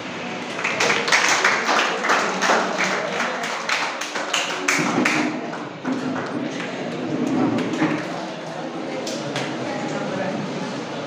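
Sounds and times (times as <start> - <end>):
audience clapping in rhythm: 0.4 - 9.6.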